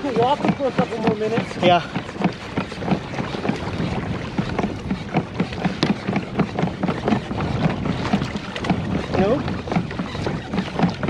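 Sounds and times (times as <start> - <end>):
water slapping kayak hull: 0.0 - 11.0
water wash: 0.0 - 11.0.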